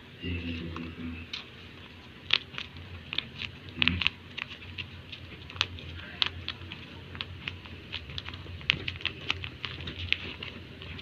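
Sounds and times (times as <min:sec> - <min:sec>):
paper squishy crinkling: 0:00.4 - 0:11.0.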